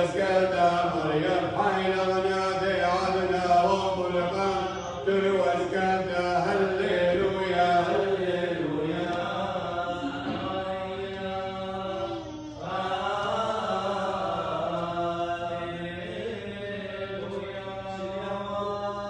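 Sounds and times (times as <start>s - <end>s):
chant sung in held notes: 0.0s - 19.0s.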